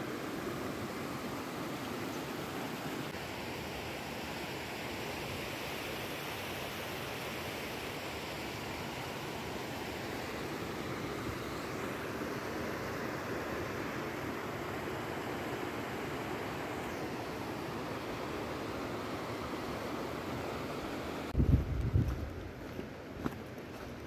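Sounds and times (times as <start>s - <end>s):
stream rushing over rocks: 0.0s - 21.4s.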